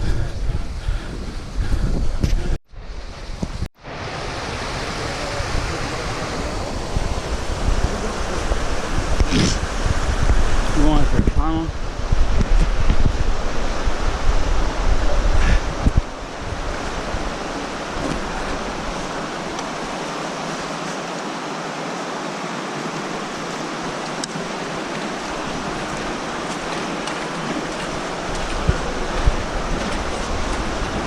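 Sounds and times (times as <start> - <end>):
wind buffeting microphone: 0.0 - 20.8, 22.9 - 31.0
creek water flowing: 0.0 - 31.0.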